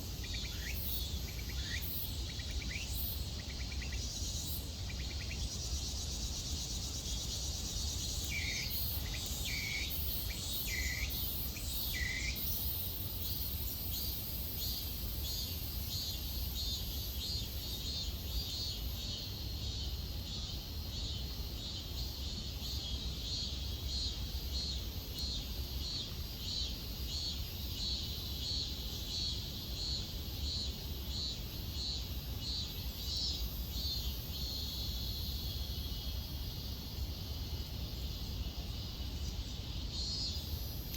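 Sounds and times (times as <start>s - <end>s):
cicadas calling in pulses: 0.0s - 40.9s
high insect hiss: 0.0s - 40.9s.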